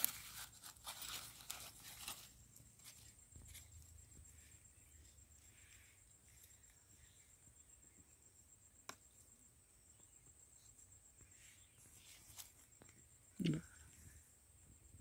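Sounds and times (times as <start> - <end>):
cricket chirring: 0.0 - 15.0.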